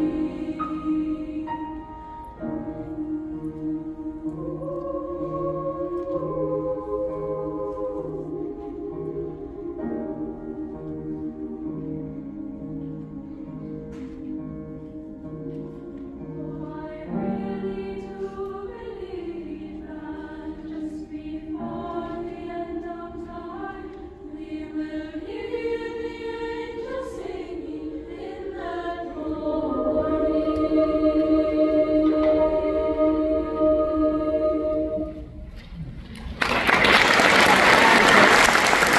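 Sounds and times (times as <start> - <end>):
girls' choir singing: 0.0 - 35.4.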